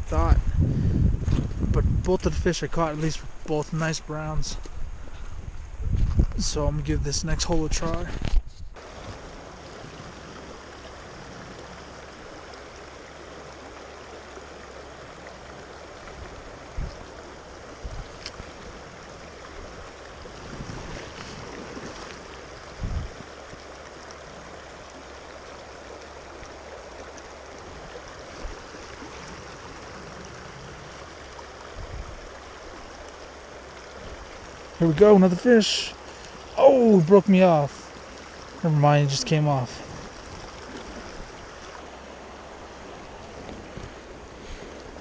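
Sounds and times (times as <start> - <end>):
river rushing over cobbles: 8.8 - 45.0.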